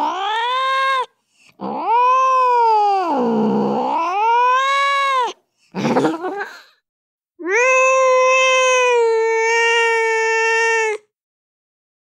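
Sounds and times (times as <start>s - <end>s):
angry cat yowling: 0.0s - 6.2s, 7.4s - 10.9s.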